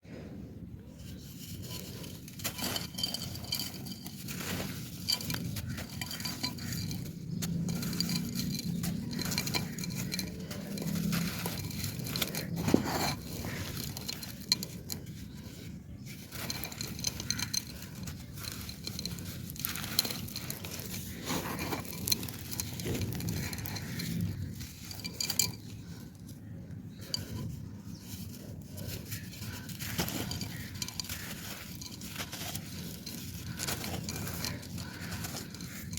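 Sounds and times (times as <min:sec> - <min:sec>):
clay pieces crunching: 0:01.2 - 0:35.9.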